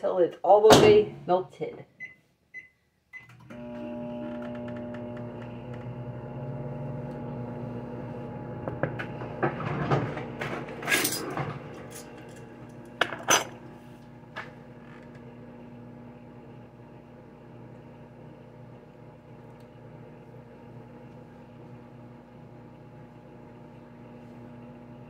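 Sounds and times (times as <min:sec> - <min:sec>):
microwave oven humming: 0:03.2 - 0:25.0.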